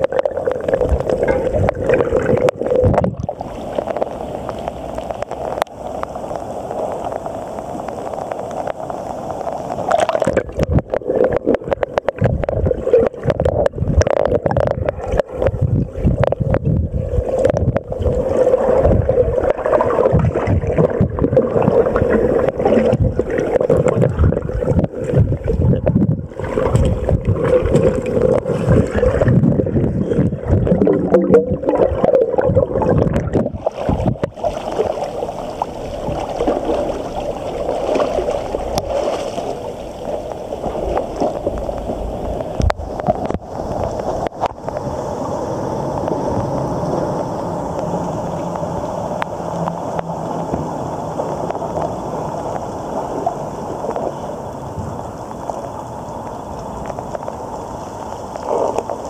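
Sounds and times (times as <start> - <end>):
muffled underwater rushing and gurgling: 0.0 - 59.0.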